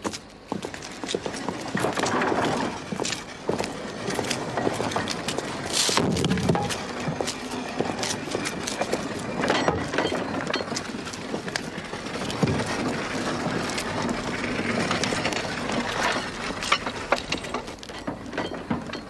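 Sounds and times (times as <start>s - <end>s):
objects knocking and clinking: 1.2s - 19.0s.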